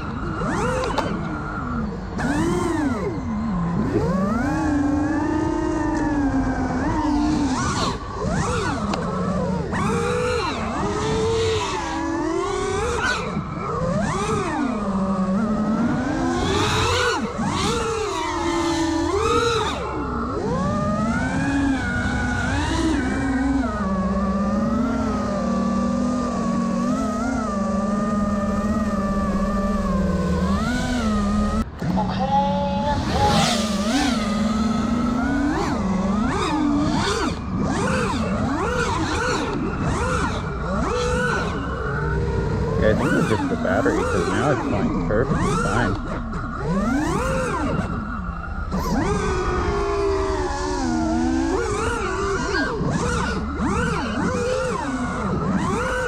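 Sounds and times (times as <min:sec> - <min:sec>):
drone motors buzzing whine: 0:00.0 - 0:56.0.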